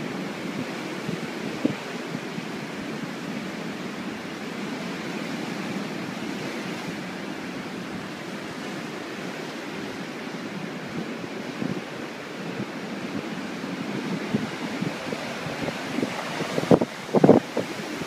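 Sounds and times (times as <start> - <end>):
ocean waves breaking on rocks: 0.0 - 18.0.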